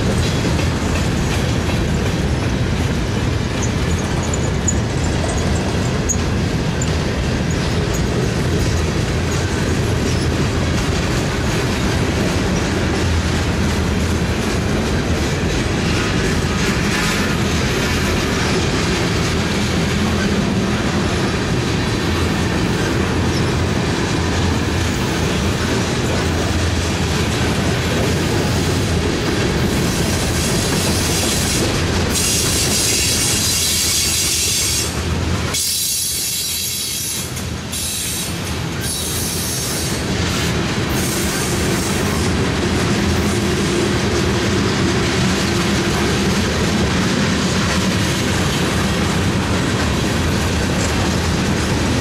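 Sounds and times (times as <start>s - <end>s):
steel wheels clattering on rails: 0.0s - 52.0s.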